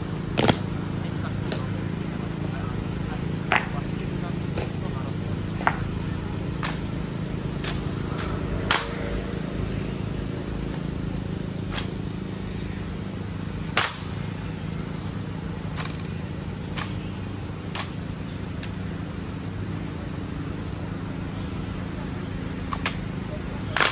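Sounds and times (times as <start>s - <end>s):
low background rumble: 0.0s - 23.9s.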